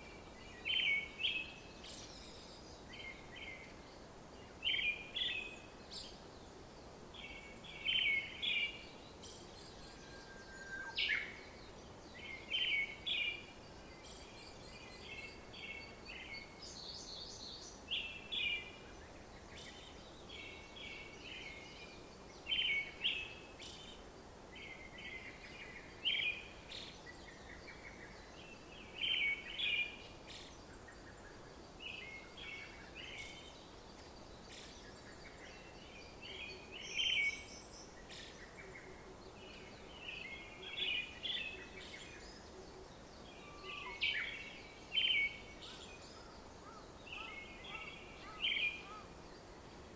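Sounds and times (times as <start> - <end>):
faint background hiss: 0.0 - 49.9
birds chirping and singing: 0.1 - 3.9, 4.5 - 49.9.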